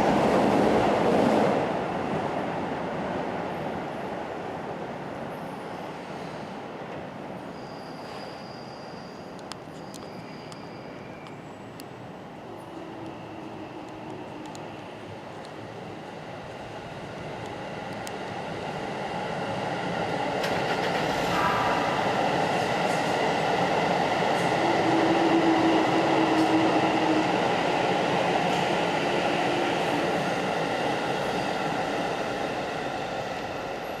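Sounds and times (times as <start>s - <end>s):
train running past: 0.0s - 34.0s.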